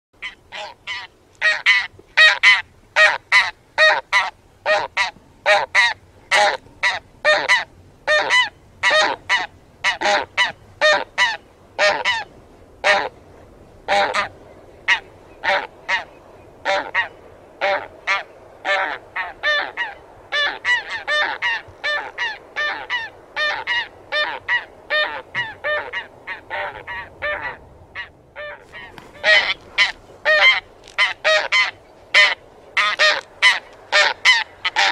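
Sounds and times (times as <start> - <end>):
geese honking: 0.2 - 13.2, 13.9 - 34.9.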